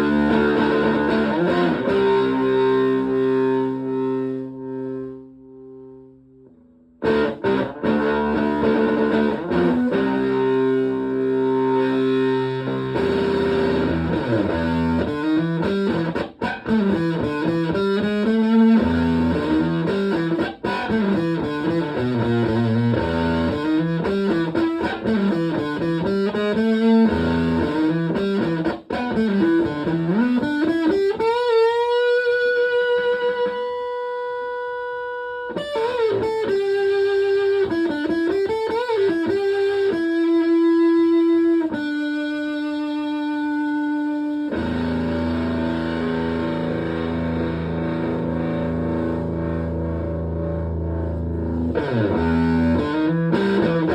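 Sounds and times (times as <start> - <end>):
fuzz electric guitar riff: 0.0 - 53.9.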